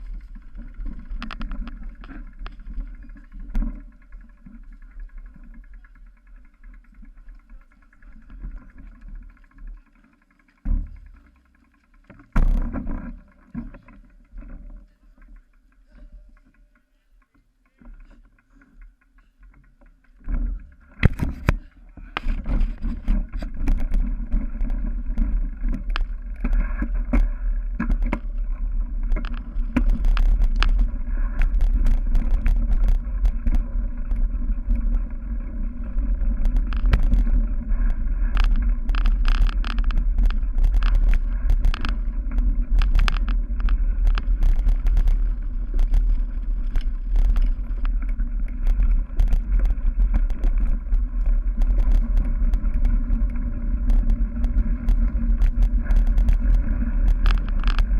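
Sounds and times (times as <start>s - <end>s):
wind rumble on microphone: 0.0s - 9.8s, 20.2s - 57.9s
bicycle rattling on rough ground: 0.0s - 57.9s.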